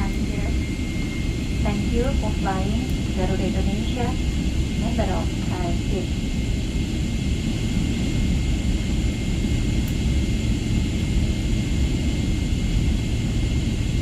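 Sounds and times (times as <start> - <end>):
airliner cabin rumble and hiss: 0.0 - 14.0.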